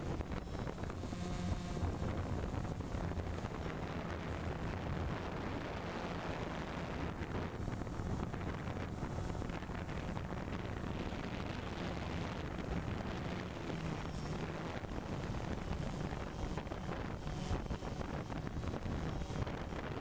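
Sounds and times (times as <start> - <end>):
drone propellers humming: 0.0 - 20.0
wind noise on microphone: 0.0 - 20.0.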